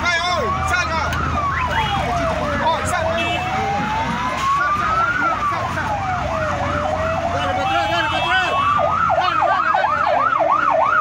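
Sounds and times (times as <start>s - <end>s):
wailing siren: 0.0s - 11.0s
yelping siren: 0.0s - 11.0s.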